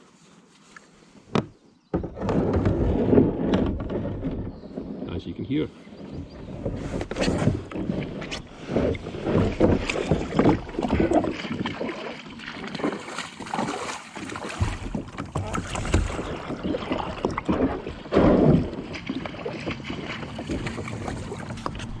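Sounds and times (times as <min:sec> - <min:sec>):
kayak hull scraping over stones: 0:00.1 - 0:22.0.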